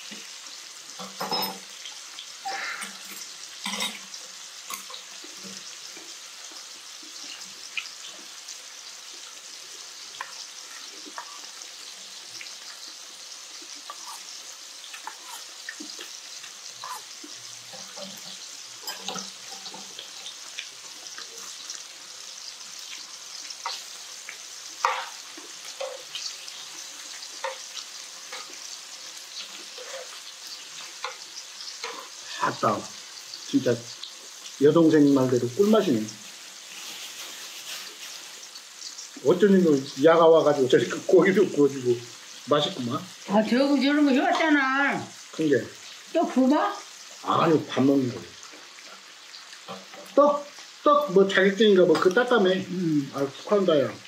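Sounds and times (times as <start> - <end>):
duck sizzling in a frying pan: 0.0 - 54.0.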